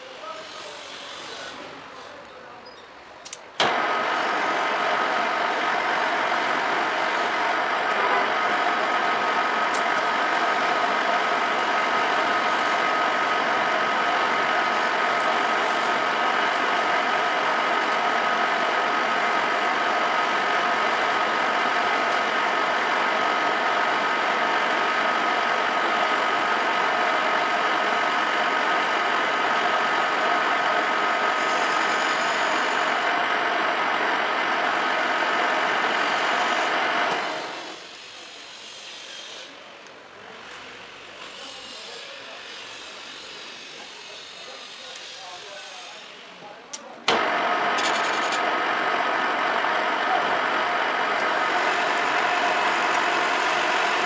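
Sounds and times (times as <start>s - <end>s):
metal lathe running with high whine: 3.6s - 46.4s, 47.1s - 54.0s.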